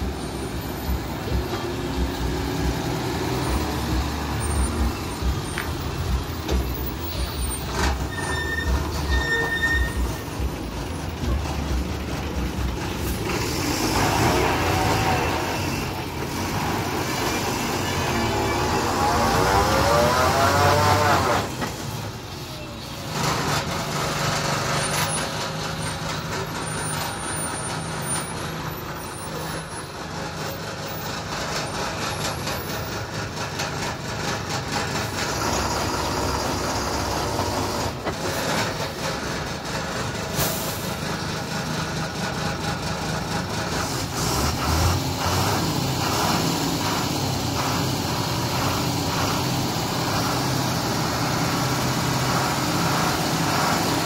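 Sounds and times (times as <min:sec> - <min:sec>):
lorry diesel engine running: 0:00.0 - 0:54.0.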